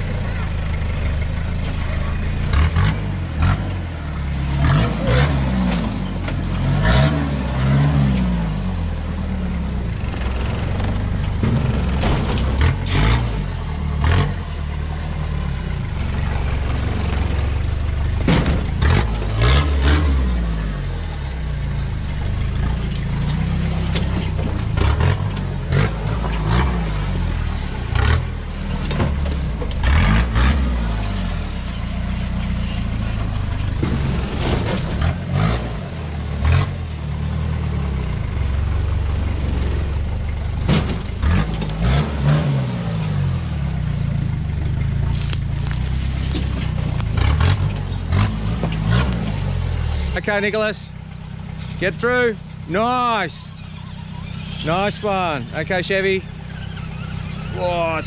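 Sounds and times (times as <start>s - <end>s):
engine revving under load: 0.0s - 58.0s.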